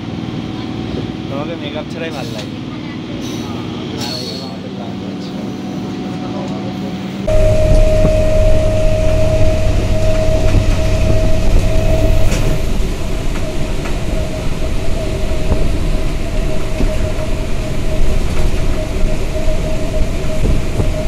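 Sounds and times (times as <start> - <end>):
train rumbling: 0.0 - 21.0
constant hum: 2.2 - 21.0.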